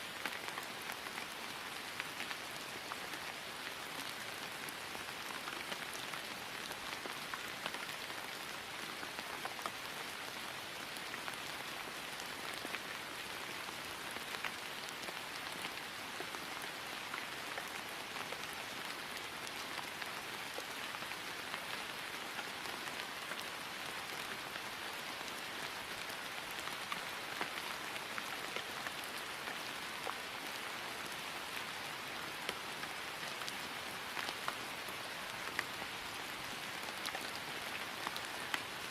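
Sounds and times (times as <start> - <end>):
rain falling on grass: 0.0 - 38.9.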